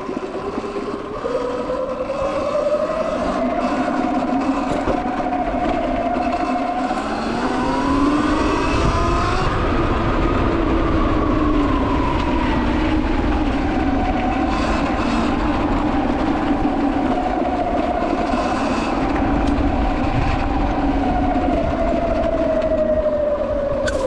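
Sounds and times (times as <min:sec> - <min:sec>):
electric motor whine: 0:00.0 - 0:10.1, 0:11.6 - 0:24.0
wind rumble: 0:00.0 - 0:24.0.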